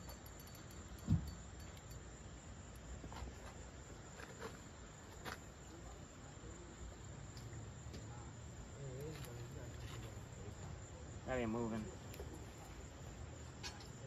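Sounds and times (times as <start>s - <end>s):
faint insect chirring: 0.0s - 14.0s.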